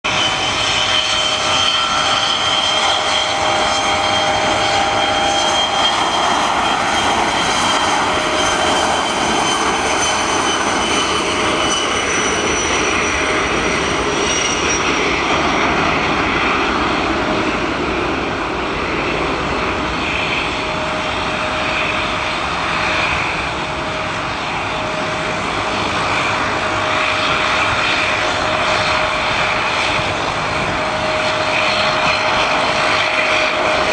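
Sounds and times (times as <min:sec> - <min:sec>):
turboprop engines droning: 0:00.0 - 0:33.9.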